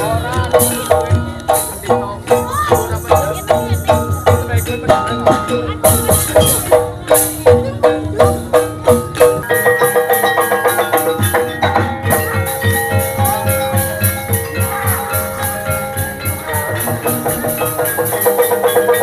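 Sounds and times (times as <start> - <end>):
mallet-struck metal tones: 0.0 - 19.0
steady drum beat: 0.0 - 19.0.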